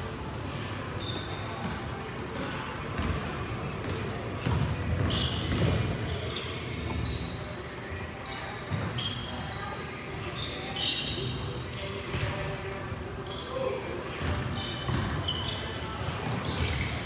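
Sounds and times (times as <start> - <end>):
sneakers squeaking on court: 0.5 - 17.0.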